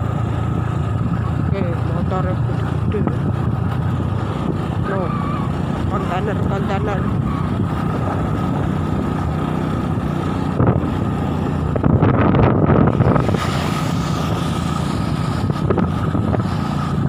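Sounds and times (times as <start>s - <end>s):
motorcycle riding: 0.0s - 17.0s
wind on microphone: 0.0s - 17.0s.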